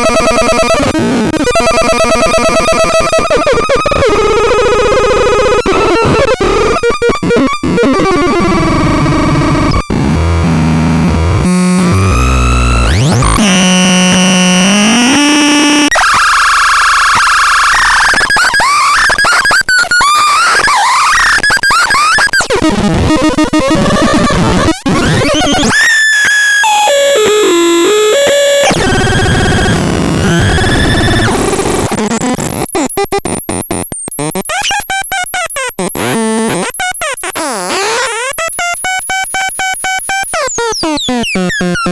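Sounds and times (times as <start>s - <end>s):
harsh electronic noise: 0.0s - 41.9s.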